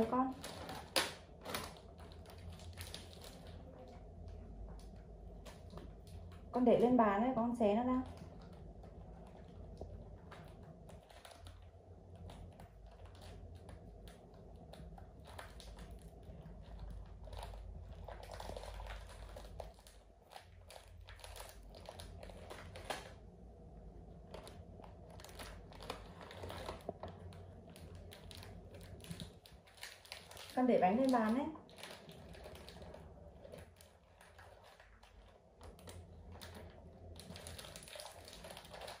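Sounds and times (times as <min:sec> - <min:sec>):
plastic wrapping crinkling: 0:00.0 - 0:39.0.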